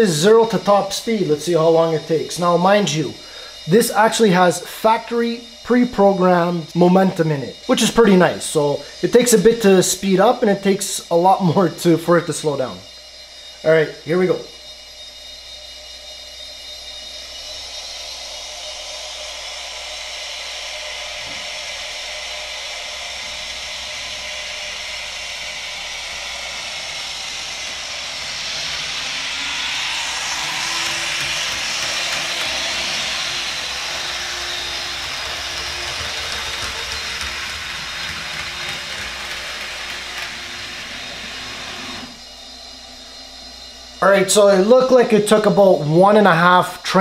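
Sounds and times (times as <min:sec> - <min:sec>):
model train turbine whine: 0:00.0 - 0:47.0.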